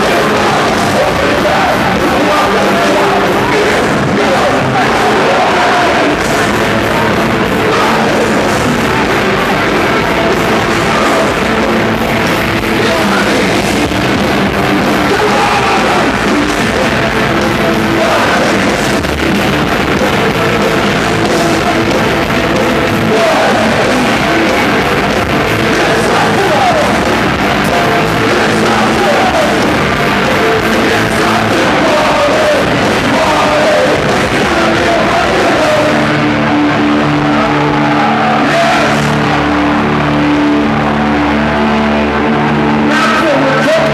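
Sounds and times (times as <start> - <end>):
distorted guitars: 0.0 - 43.9
drums: 0.0 - 43.9
person shouting singing: 0.0 - 43.9.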